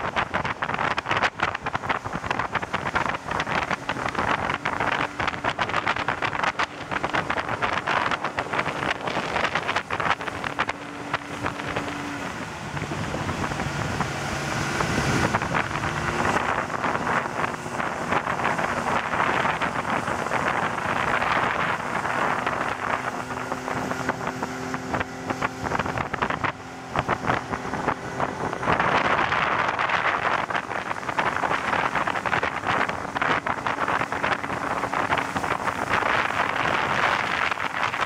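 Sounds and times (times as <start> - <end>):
outboard boat passing: 0.0 - 38.0
outboard engine running: 0.0 - 38.0
water slapping hull: 0.0 - 38.0
wind buffeting microphone: 0.0 - 38.0.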